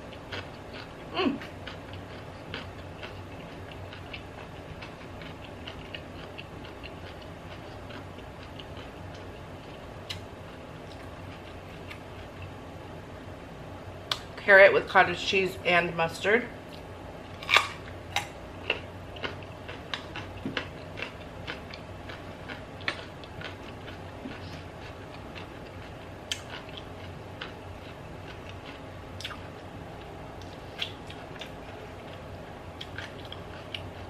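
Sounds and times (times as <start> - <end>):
crisp chewing crunches: 0.1 - 12.5, 16.7 - 34.0.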